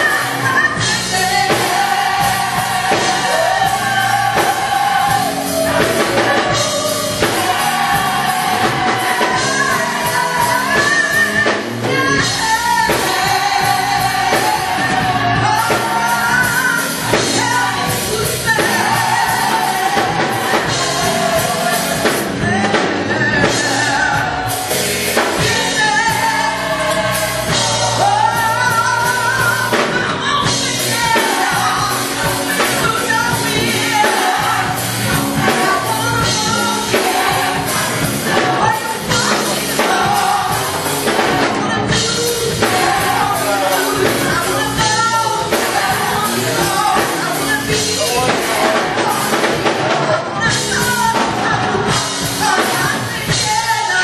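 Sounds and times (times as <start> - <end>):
band accompaniment: 0.0 - 54.0
gospel choir singing: 0.0 - 54.0
steady drum beat: 0.0 - 54.0.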